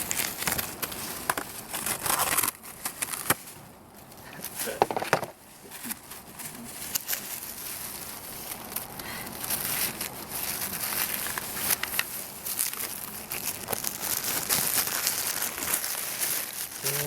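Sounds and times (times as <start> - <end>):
food wrapping crinkling: 0.0 - 17.0.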